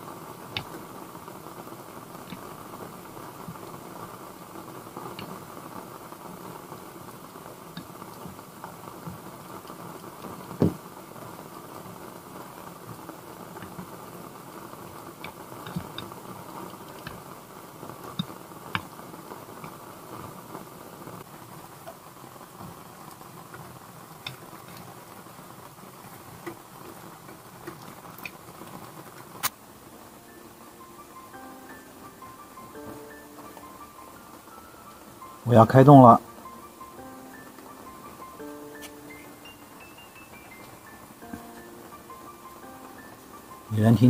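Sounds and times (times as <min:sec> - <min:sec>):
heavy rain on a roof: 0:00.0 - 0:44.0.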